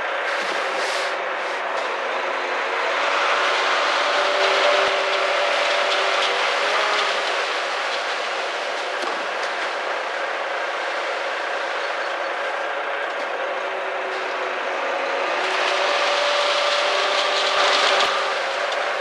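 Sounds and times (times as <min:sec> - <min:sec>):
concrete mixer truck running: 0:00.0 - 0:19.0.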